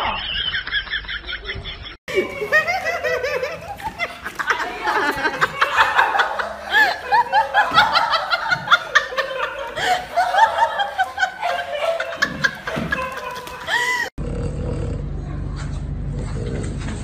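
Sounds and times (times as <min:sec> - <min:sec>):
people giggling: 0:00.0 - 0:14.2.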